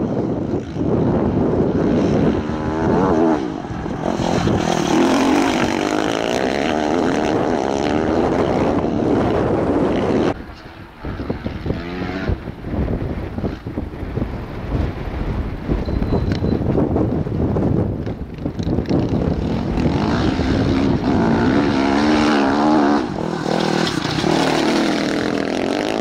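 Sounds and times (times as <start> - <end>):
engines passing by: 0.0 - 14.4, 18.5 - 26.0
faint choppy engine: 0.0 - 16.5, 17.7 - 26.0.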